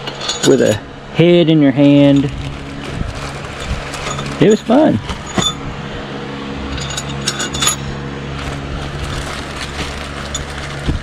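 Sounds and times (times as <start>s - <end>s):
metal parts clinking: 0.0s - 0.8s, 1.8s - 5.7s, 6.7s - 11.0s
low mechanical hum: 0.0s - 11.0s.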